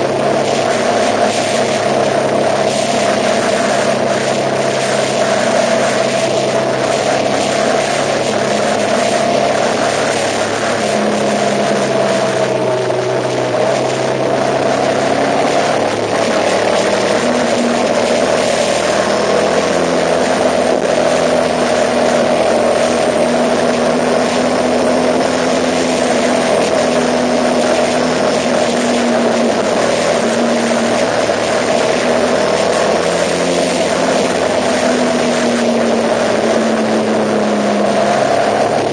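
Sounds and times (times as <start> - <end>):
broad rushing noise: 0.0 - 38.9
vehicle engine droning: 0.0 - 38.9.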